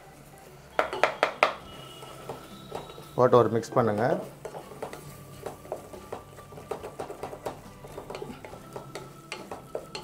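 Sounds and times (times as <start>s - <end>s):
wooden spatula scraping metal pot: 1.0s - 10.0s.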